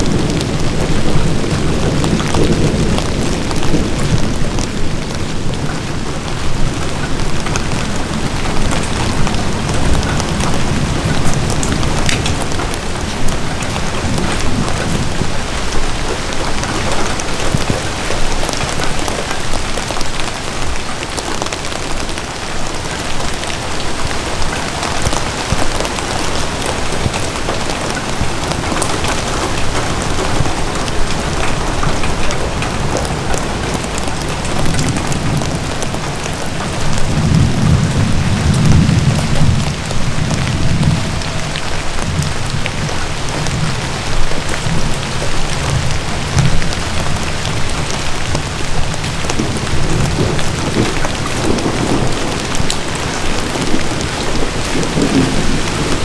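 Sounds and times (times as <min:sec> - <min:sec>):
low thunder rumble: 0:00.0 - 0:19.6, 0:22.9 - 0:56.0
rain falling on an umbrella: 0:00.0 - 0:56.0.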